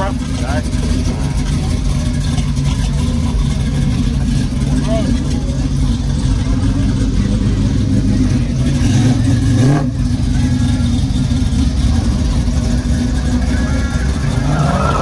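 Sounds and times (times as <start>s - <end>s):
car exhaust rumble: 0.0s - 15.0s
engine rev: 0.0s - 15.0s.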